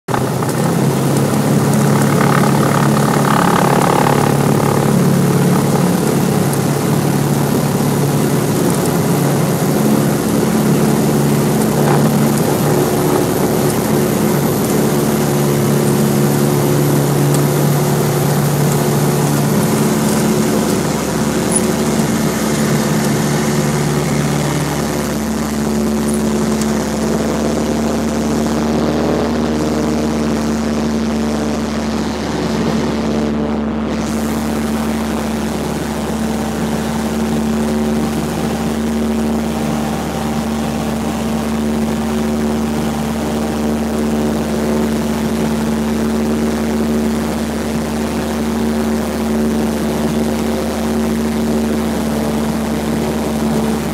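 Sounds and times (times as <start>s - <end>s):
propeller airplane engine drone: 0.0s - 53.9s.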